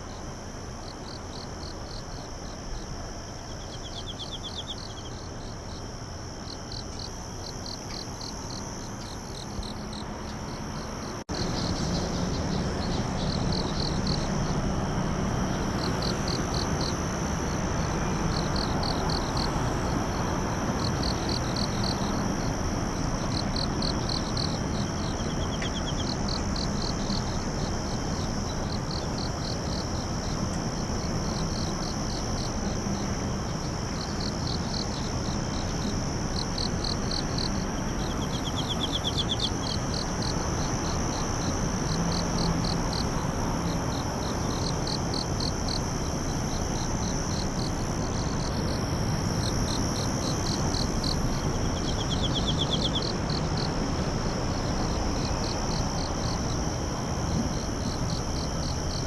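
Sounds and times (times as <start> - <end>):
background hiss: 0.0 - 59.0
crickets chirping: 0.0 - 59.0
high insect trill: 0.0 - 59.0.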